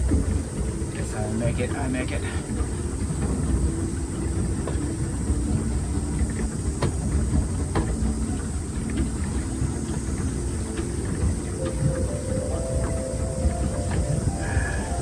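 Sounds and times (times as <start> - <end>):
paddle wheel churning water: 0.0 - 15.0.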